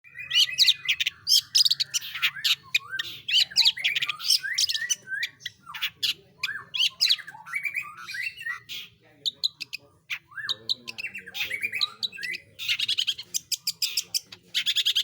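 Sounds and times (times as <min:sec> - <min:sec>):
shrike singing harsh chattering: 0:00.1 - 0:15.0.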